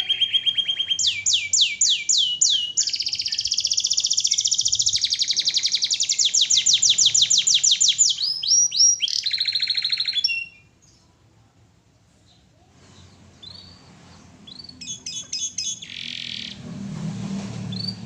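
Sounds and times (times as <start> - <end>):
canary singing trills: 0.0 - 11.1, 12.3 - 16.6.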